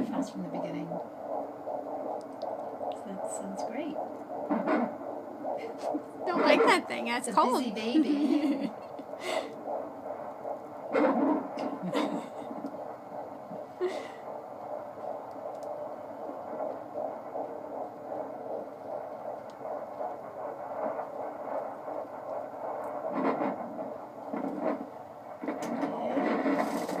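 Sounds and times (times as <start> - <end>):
fetal heartbeat whooshing pulse: 0.0 - 27.0
scratchy static: 0.0 - 27.0.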